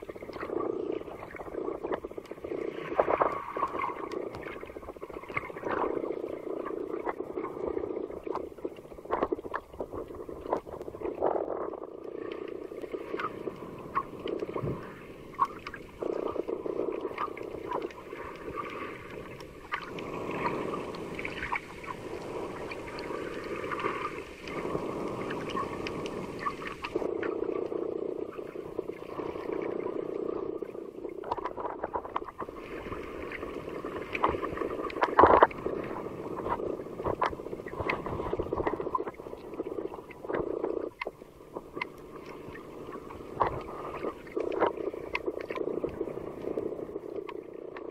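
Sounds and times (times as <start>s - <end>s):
clicks and crackles: 0.0s - 27.7s, 30.6s - 47.9s
muffled underwater sea water sloshing: 0.0s - 47.9s.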